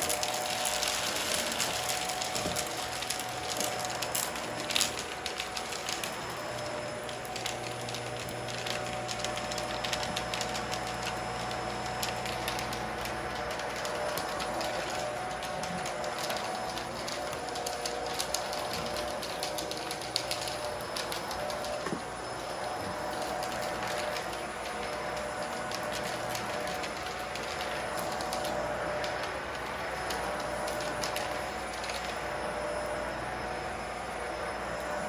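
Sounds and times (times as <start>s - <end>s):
vacuum cleaner motor hum: 0.0s - 35.0s.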